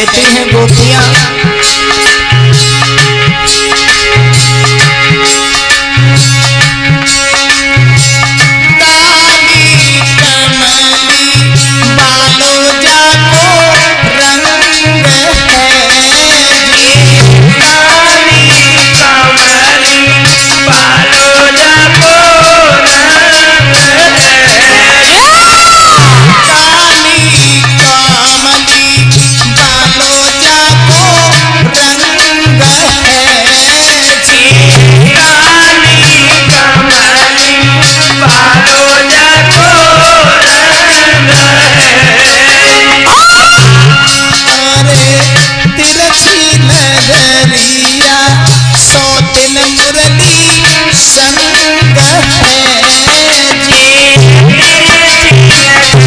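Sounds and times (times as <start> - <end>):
drum strokes and percussion: 0.0 - 56.0
wavering melodic lead: 0.0 - 56.0.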